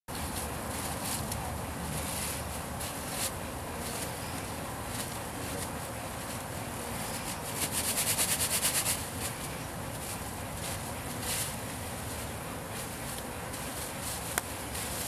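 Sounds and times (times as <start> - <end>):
honeybees buzzing: 0.1 - 15.0.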